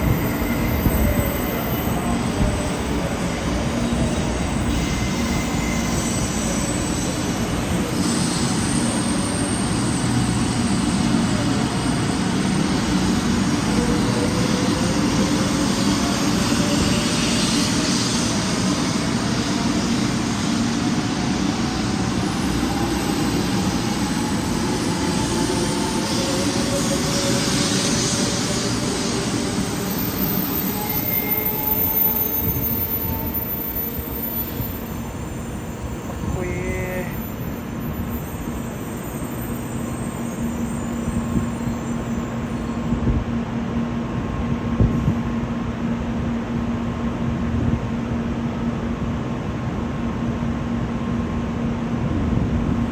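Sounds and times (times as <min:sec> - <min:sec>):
train inverter whine rising in pitch: 0:00.0 - 0:52.9
train running rumble: 0:00.0 - 0:52.9.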